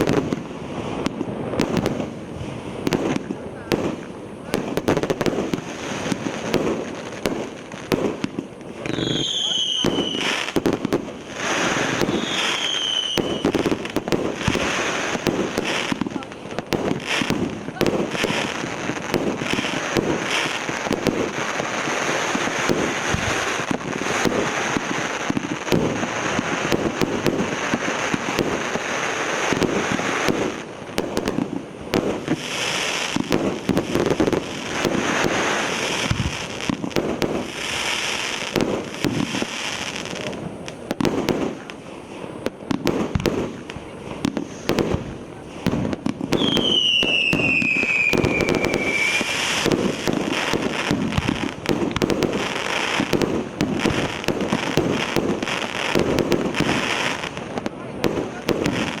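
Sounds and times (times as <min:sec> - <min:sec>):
fireworks hiss: 0:00.0 - 0:59.0
fireworks battery firing shots: 0:02.8 - 0:41.7, 0:42.3 - 0:59.0.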